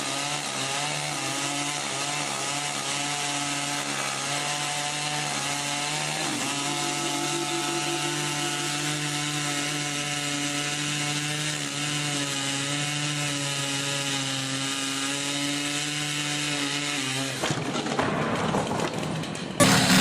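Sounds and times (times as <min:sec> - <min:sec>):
chainsaw cutting wood: 0:00.0 - 0:18.0, 0:19.6 - 0:20.0.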